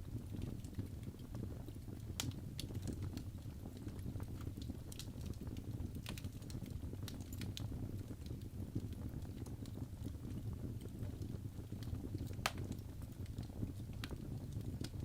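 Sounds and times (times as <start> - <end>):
fire crackling and popping: 0.0 - 15.0
flames rumbling in fireplace: 0.0 - 15.0.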